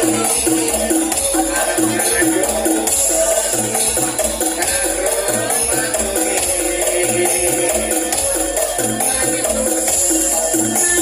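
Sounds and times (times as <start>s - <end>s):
jingling percussion: 0.0s - 11.0s
loud music with steady beat: 0.0s - 11.0s.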